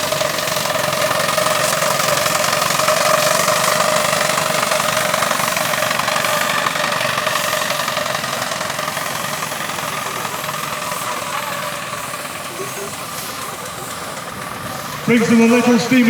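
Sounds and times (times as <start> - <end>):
steam engine hissing: 0.0 - 16.0.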